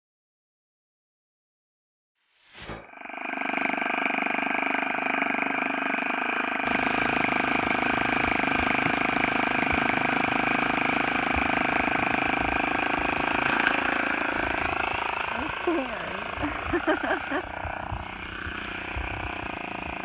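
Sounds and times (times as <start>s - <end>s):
model airplane engine running: 2.8s - 20.0s.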